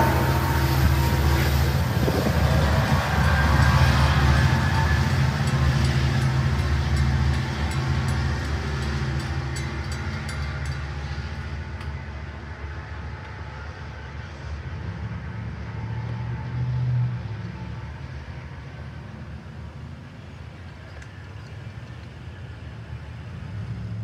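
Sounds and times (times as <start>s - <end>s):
diesel train engine rumble: 0.0s - 24.0s.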